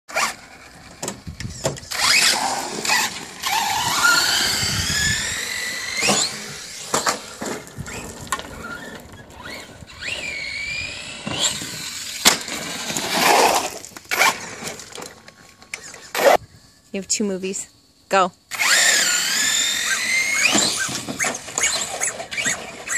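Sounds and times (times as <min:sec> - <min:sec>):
rc car electric motor whining: 0:00.1 - 0:16.4, 0:18.5 - 0:22.9
tyre noise on concrete: 0:00.1 - 0:16.4, 0:20.2 - 0:22.9.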